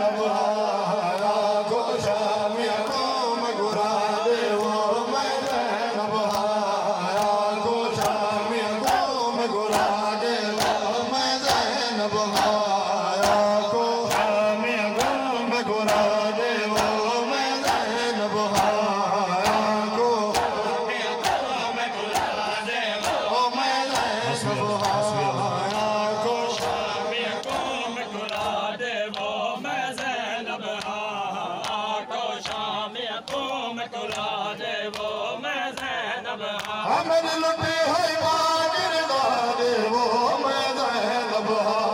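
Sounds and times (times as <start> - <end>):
rhythmic chest-beating slaps: 0.0 - 41.5
men chanting in unison: 0.0 - 41.9.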